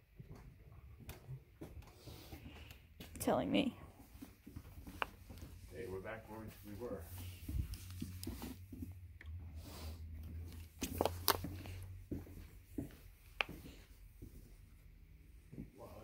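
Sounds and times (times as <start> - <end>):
footsteps: 0.0 - 9.0, 10.1 - 16.0.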